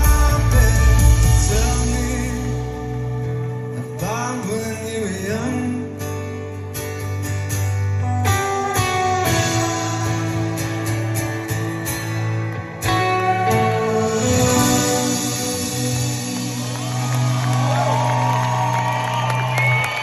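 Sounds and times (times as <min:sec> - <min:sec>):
plucked guitar notes: 0:00.0 - 0:17.7
guitars playing: 0:00.0 - 0:20.0.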